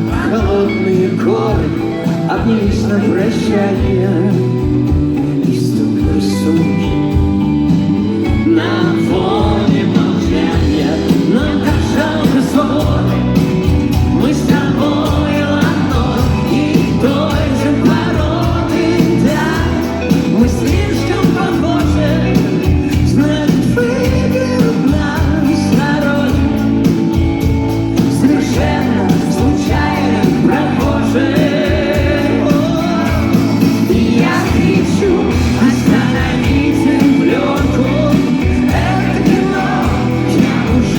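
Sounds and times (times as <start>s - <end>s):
person singing: 0.0s - 7.3s, 8.0s - 27.2s, 27.9s - 40.9s
live rock band playing: 0.0s - 40.9s.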